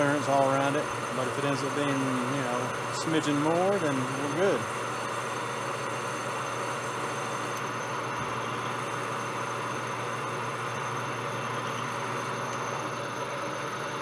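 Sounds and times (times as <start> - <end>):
low motor hum: 0.0 - 14.0
metal lathe machining: 0.0 - 14.0.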